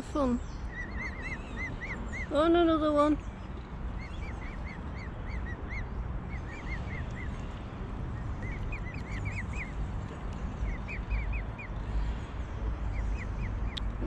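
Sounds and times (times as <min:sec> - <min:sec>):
steady low rumble: 0:00.0 - 0:14.0
cygnets peeping: 0:00.1 - 0:14.0.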